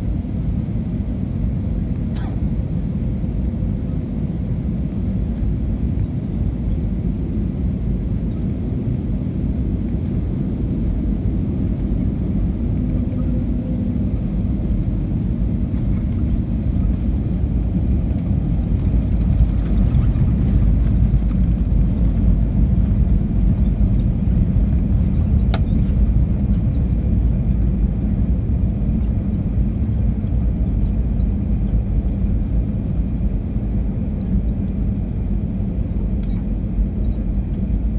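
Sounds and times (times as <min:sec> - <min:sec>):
airplane cabin rumble: 0:00.0 - 0:37.9.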